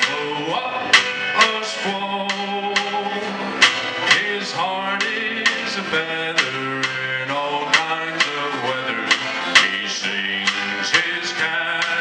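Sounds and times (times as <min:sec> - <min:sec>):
man singing: 0:00.0 - 0:03.4, 0:04.0 - 0:12.0
country band playing: 0:00.0 - 0:12.0
sharp drum hits: 0:02.3 - 0:12.0.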